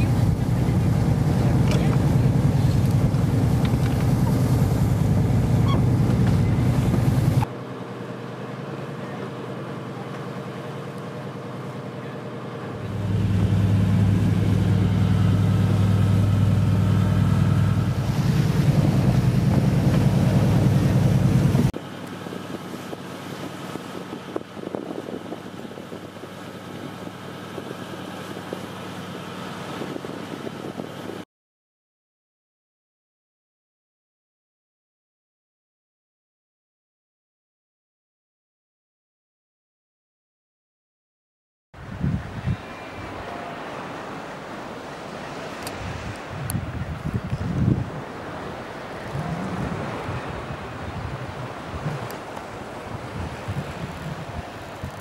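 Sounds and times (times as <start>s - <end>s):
boat engine droning: 0.0s - 31.2s, 41.8s - 55.0s
sea water noise: 0.0s - 31.2s, 41.8s - 55.0s
wind: 0.0s - 31.3s, 41.8s - 55.0s.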